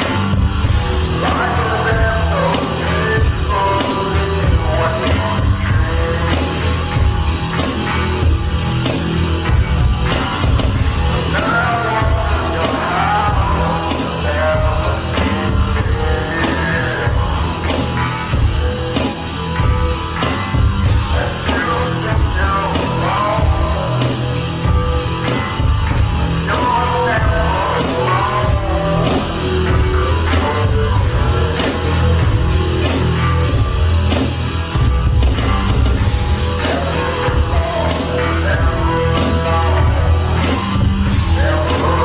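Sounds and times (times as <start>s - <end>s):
bending guitar lead line: 0.0s - 42.0s
driving drum beat: 0.0s - 42.0s
hard rock music: 0.0s - 42.0s.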